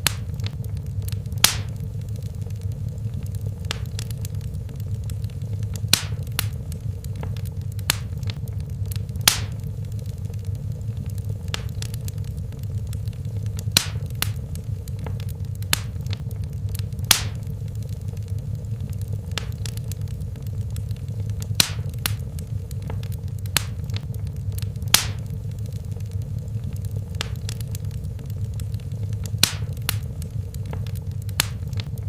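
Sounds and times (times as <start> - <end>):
fire popping and snapping: 0.0 - 32.0
low rumble of flames: 0.0 - 32.0.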